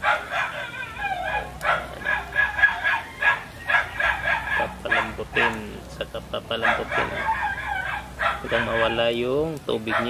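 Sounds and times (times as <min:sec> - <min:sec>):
dog yapping: 0:00.0 - 0:05.6, 0:06.6 - 0:09.1.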